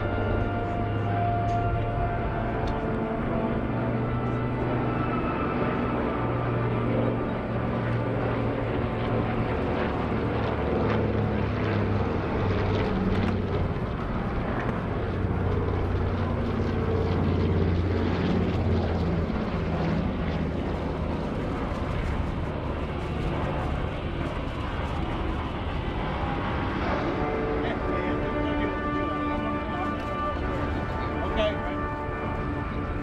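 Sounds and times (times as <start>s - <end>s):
propeller plane engine droning: 0.0s - 33.0s.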